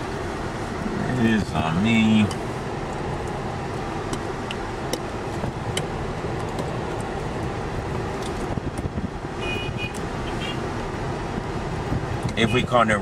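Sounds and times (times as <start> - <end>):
vehicle road and engine noise: 0.0 - 13.0.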